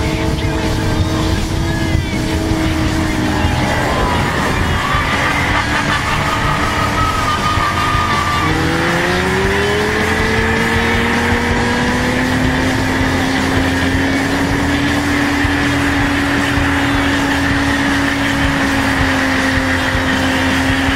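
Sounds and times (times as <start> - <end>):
motorcycle engines revving high: 0.0 - 20.9
rear tyre spinning: 0.0 - 20.9.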